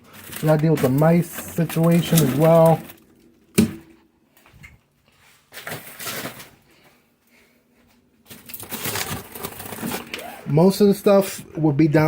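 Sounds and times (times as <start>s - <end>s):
food packages rustling and clattering: 0.0s - 3.8s, 4.4s - 10.7s.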